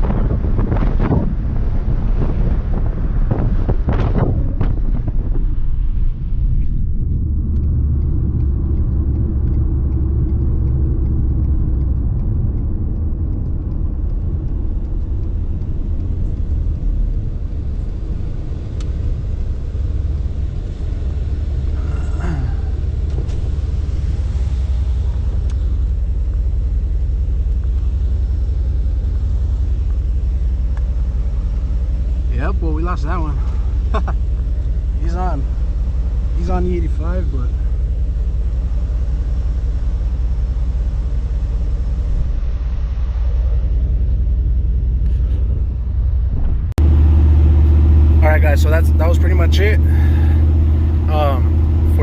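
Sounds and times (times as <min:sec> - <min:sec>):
pickup truck driving: 0:00.0 - 0:52.0.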